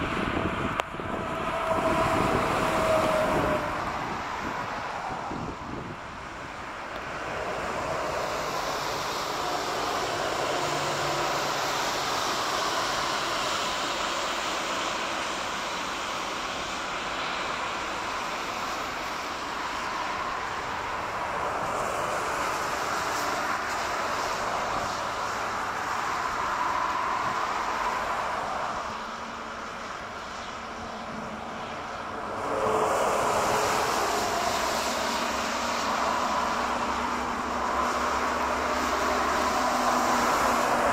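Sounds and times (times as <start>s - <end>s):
jet airliner engine drone: 0.0s - 40.9s.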